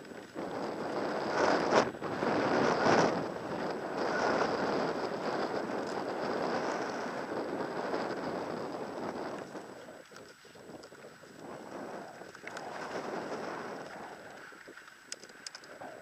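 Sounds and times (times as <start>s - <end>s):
bike tyres rolling: 0.0s - 16.0s
wind rushing over microphone: 0.0s - 16.0s.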